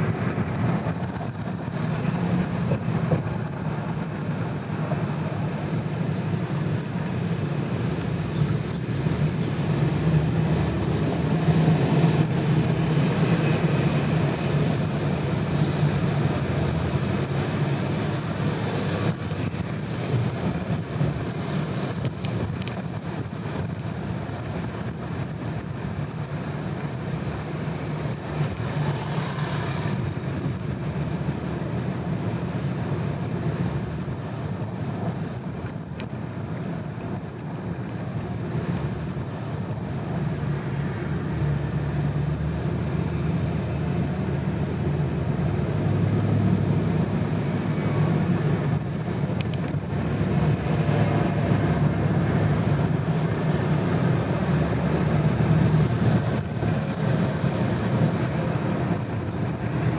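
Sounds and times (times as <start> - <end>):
car road noise: 0.0 - 59.9.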